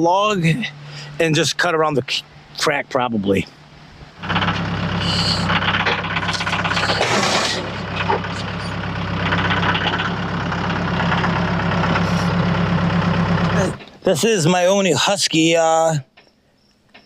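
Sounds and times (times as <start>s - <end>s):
engine running steadily: 0.0s - 14.1s.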